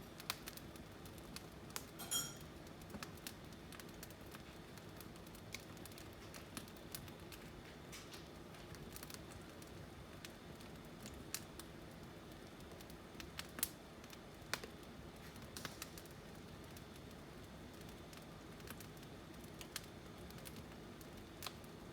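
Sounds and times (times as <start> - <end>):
fireplace fire crackling and popping: 0.0 - 21.9.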